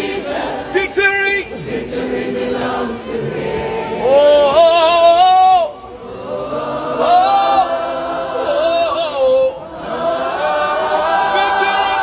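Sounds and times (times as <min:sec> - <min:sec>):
group singing worship chorus: 0:00.0 - 0:12.0.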